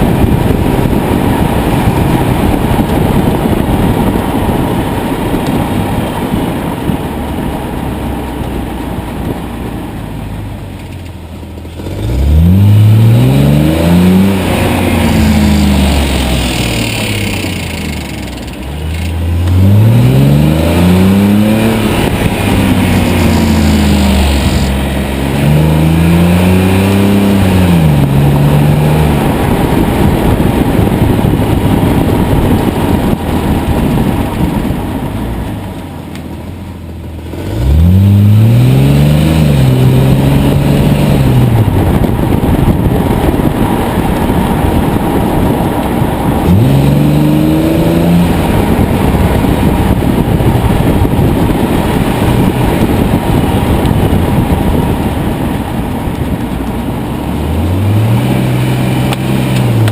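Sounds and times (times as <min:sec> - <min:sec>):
car engine accelerating hard: 0:00.0 - 0:59.9
road noise at speed: 0:00.0 - 0:59.9.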